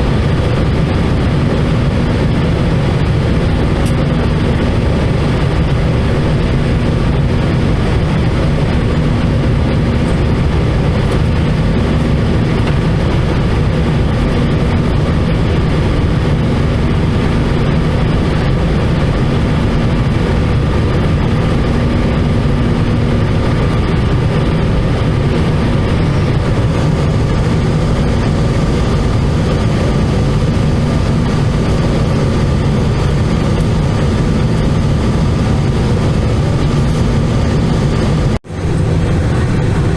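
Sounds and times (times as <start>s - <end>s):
jet engine cabin drone: 0.0s - 39.9s
low hum: 0.0s - 39.9s.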